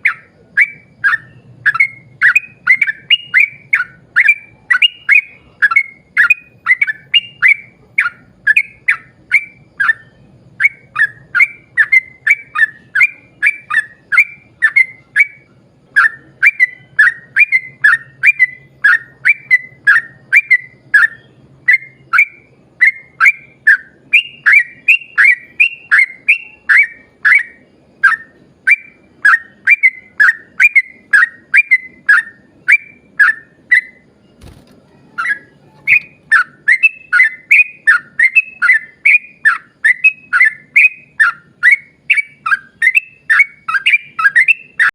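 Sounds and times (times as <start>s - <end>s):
bulbul singing bubbly whistles: 0.0s - 44.9s.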